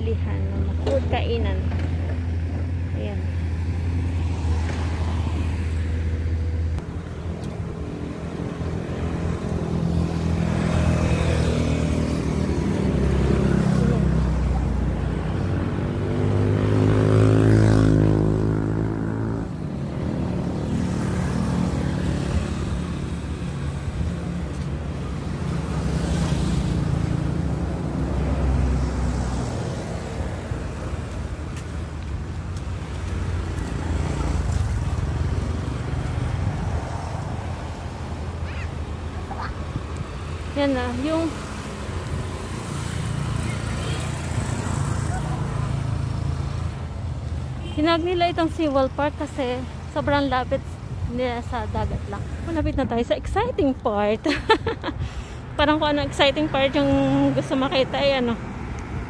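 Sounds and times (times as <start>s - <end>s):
vehicle passing: 1.9s - 59.0s
vehicle engines running: 6.1s - 58.9s.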